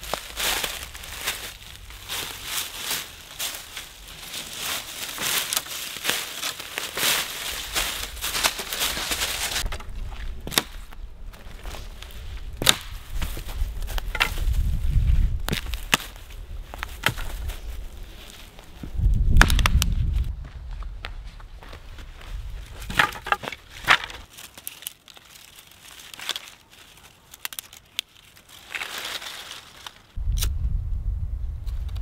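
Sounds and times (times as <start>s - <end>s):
twigs snapping: 0.0s - 14.7s, 15.4s - 20.3s, 22.6s - 30.6s
dry leaves crunching: 0.0s - 30.2s.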